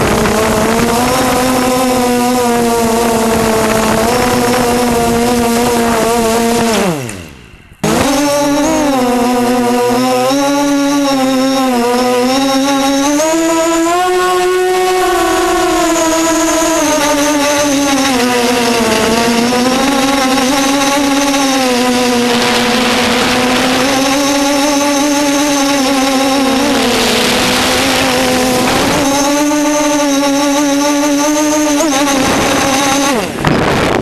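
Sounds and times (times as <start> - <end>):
wind rushing over aircraft: 0.0 - 12.0, 14.9 - 34.0
rc aircraft motors buzzing: 0.0 - 34.0.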